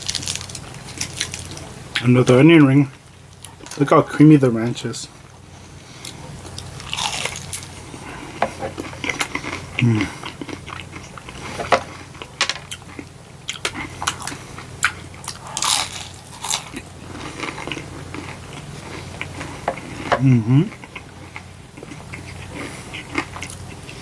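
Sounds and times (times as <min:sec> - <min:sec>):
crunchy chewing: 0:00.0 - 0:02.1, 0:05.2 - 0:24.0.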